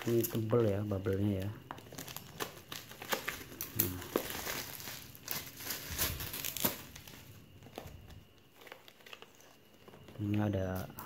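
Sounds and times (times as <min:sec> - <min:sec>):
bubble wrap crinkling and crackling: 0:00.0 - 0:11.0.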